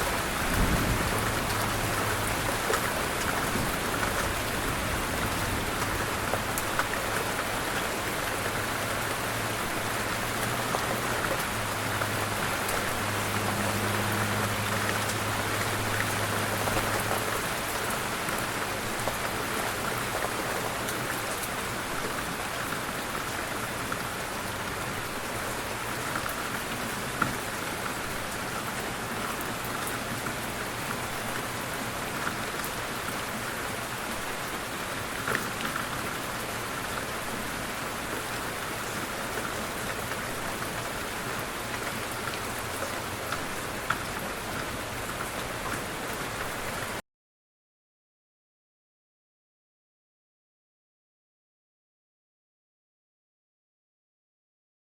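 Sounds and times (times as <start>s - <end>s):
rain pattering: 0.0s - 47.0s.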